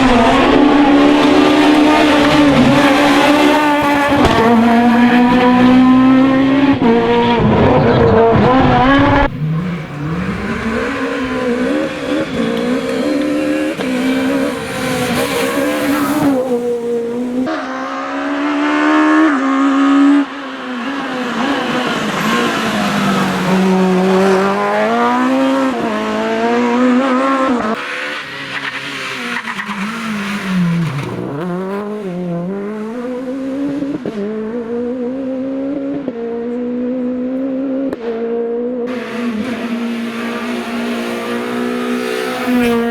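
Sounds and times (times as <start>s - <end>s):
rally car engine revving hard: 0.0s - 42.9s.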